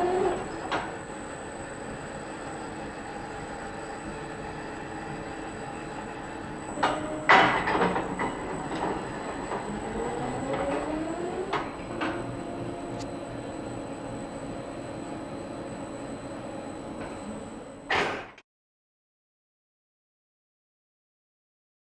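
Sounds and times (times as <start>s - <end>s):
robot arm drives humming and whining: 0.0s - 18.0s.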